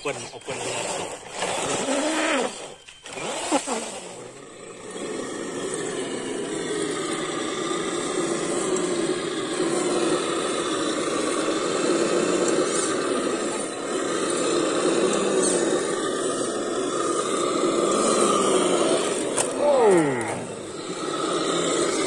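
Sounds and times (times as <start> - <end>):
electric motor and gearbox whine: 0.0 - 22.0.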